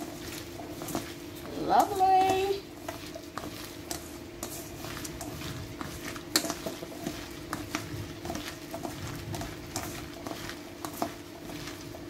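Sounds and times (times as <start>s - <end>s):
soft squelching of stuffing: 0.0s - 12.0s
steady hum: 0.0s - 12.0s.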